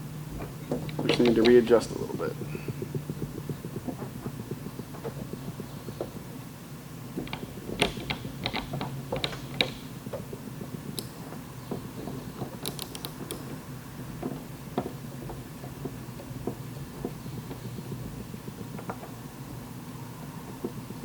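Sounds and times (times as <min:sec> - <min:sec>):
steady low hum: 0:00.0 - 0:21.0
sharp clicks and light knocks: 0:00.3 - 0:06.4, 0:07.1 - 0:19.2.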